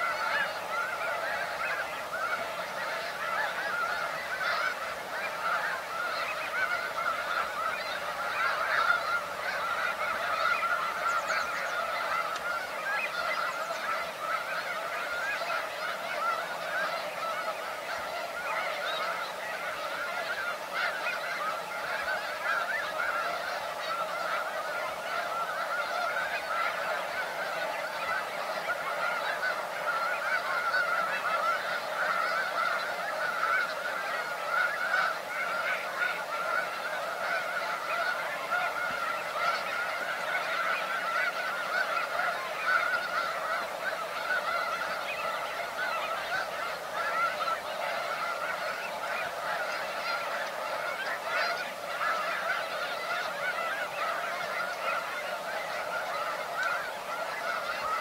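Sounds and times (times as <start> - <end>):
flock of geese honking: 0.0 - 58.0.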